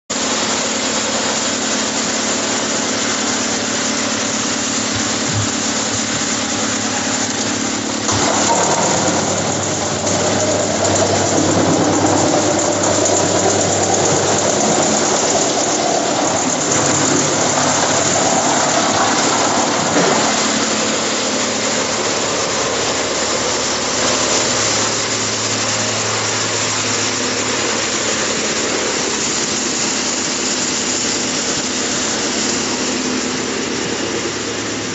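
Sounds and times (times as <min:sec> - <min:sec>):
wood chipper machine running: 0:00.1 - 0:34.9.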